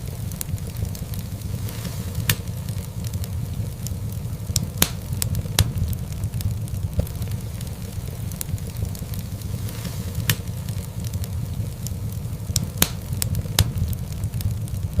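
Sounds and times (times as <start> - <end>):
low rumble: 0.0 - 15.0
wood fire crackling: 0.0 - 15.0
sharp pops: 0.3 - 15.0.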